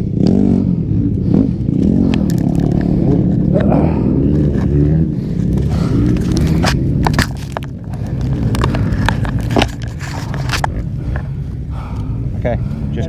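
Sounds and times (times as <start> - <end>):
dirt bike engines running: 0.0 - 13.0
clicks and scrapes near microphone: 1.1 - 12.1.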